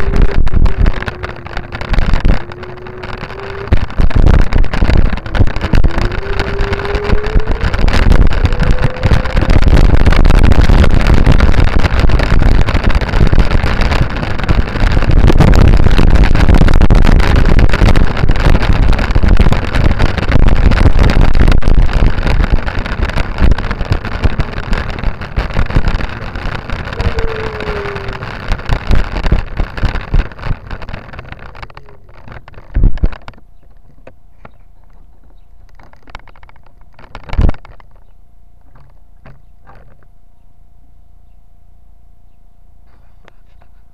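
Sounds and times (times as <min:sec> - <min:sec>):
wind on microphone: 0:00.0 - 0:38.1
camera rumbling along pavement: 0:00.0 - 0:40.2.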